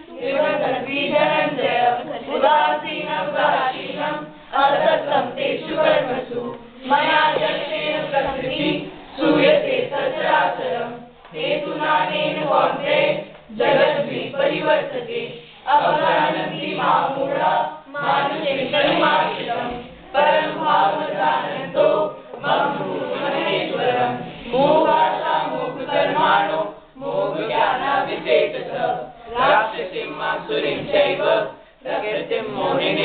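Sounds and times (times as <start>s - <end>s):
voices chanting in unison: 0.0s - 33.0s.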